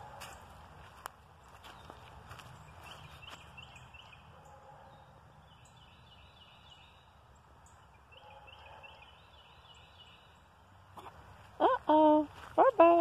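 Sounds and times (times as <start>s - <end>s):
faint birdsong: 0.0s - 12.1s.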